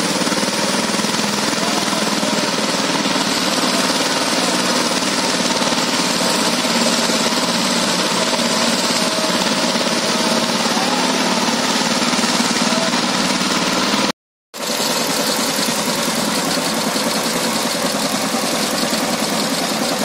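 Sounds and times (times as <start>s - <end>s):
diesel engines chugging: 0.0s - 20.0s.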